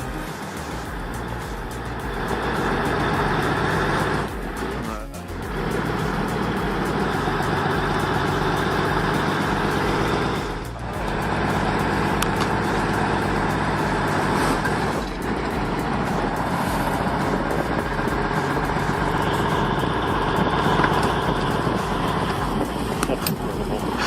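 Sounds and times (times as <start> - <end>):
truck diesel engine running hard: 0.0 - 24.0.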